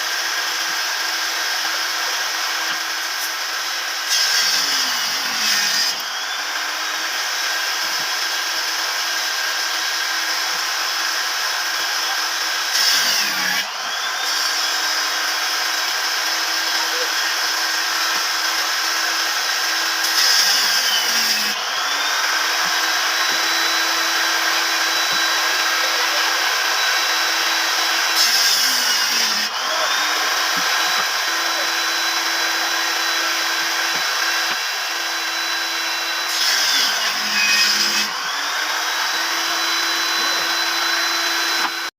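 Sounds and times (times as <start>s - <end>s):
power tool motor humming: 0.0s - 41.9s
tool cutting wood: 0.0s - 41.9s.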